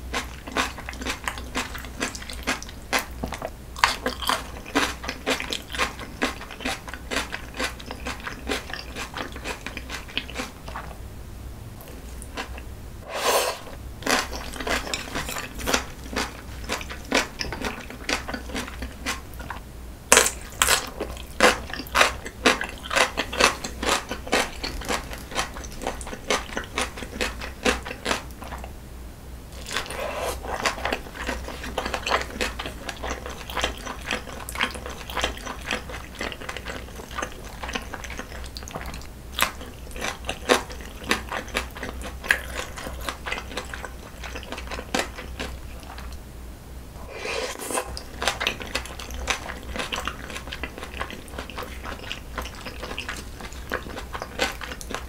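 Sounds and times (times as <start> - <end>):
wet chewing and smacking: 0.0 - 11.0, 14.0 - 28.8, 29.6 - 46.2, 47.9 - 55.0
crisp crunching of pickles: 0.1 - 10.9, 14.0 - 28.7, 29.6 - 46.2, 47.8 - 55.0.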